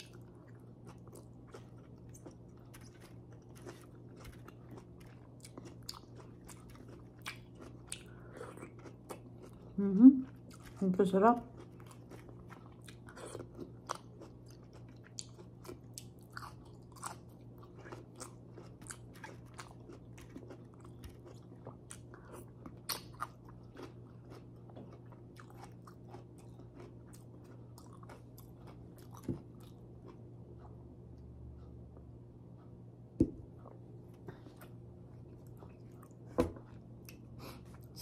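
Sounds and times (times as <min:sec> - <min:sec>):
faint low hum: 0:00.0 - 0:38.0
woman chewing food: 0:00.0 - 0:38.0.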